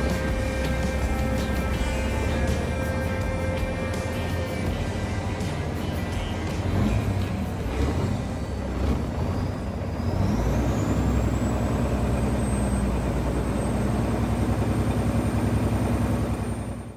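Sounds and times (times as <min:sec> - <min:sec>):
high whine: 0:00.0 - 0:13.6
truck diesel engine drone: 0:00.0 - 0:16.9.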